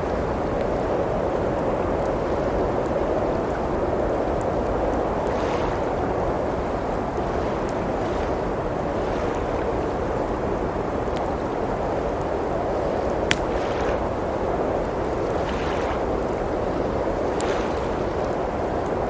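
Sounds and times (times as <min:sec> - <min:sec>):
blizzard wind rushing: 0:00.0 - 0:19.0
wood fire crackling: 0:00.0 - 0:19.0.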